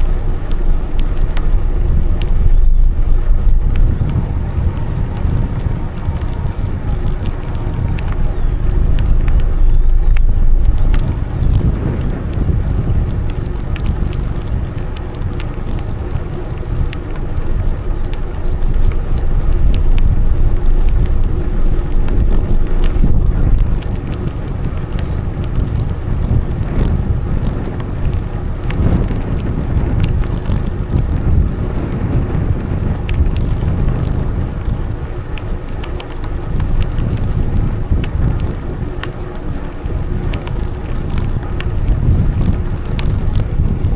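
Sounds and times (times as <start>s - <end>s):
bicycle tyres rumbling on path: 0.0s - 43.9s
faint ticks: 0.0s - 43.9s
wind buffeting microphone: 0.0s - 43.9s.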